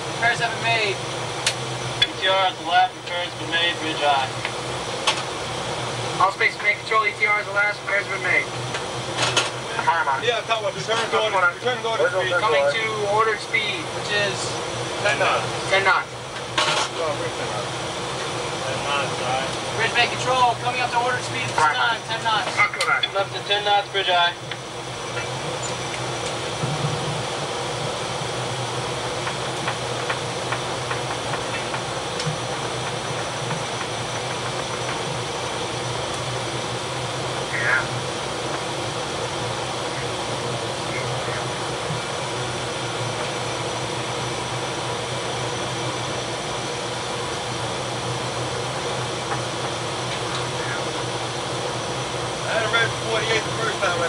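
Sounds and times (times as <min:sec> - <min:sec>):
engine room machinery roar: 0:00.0 - 0:54.0.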